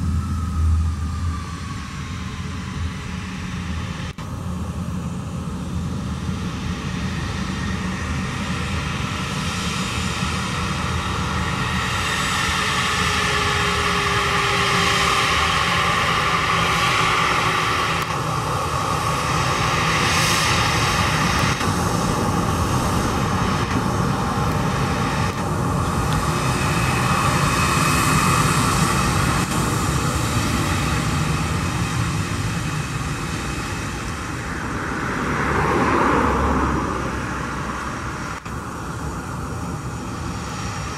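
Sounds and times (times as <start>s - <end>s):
jet engines whining at taxi: 0.0s - 40.9s.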